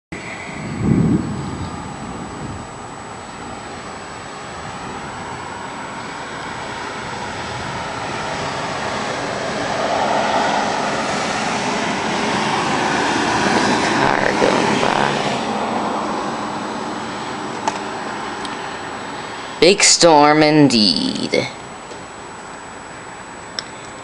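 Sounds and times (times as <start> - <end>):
rushing engine-like noise: 0.1 - 20.5.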